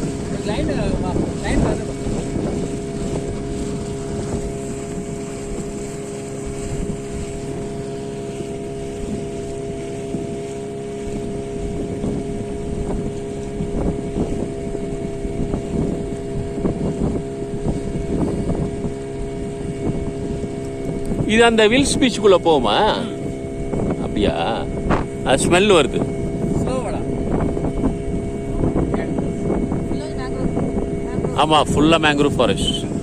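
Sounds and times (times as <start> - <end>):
motorboat engine running: 0.0 - 33.0
wind buffeting microphone: 0.0 - 33.0.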